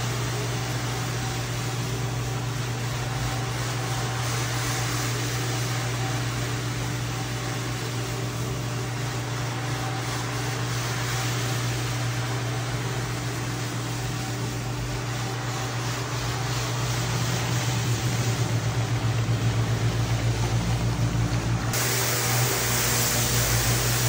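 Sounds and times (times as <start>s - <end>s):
machine motor humming: 0.0s - 24.0s.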